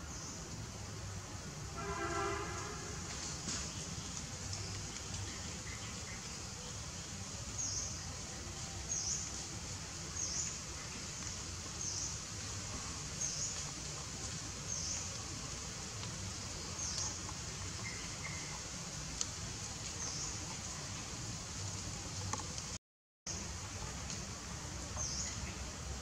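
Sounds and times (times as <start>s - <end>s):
insects hissing: 0.0s - 22.3s.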